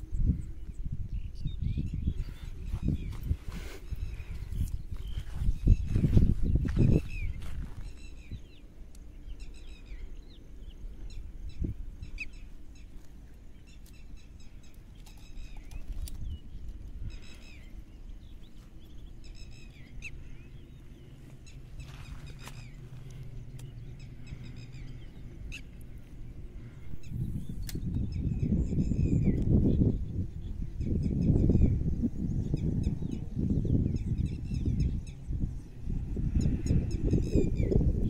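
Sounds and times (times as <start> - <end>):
low outdoor rumble: 0.0 - 38.0
small birds chirping: 0.0 - 38.0.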